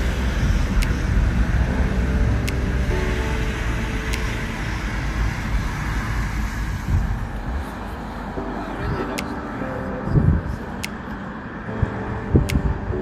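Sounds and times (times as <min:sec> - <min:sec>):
faint music: 0:00.0 - 0:13.0
road traffic rumble: 0:00.0 - 0:13.0.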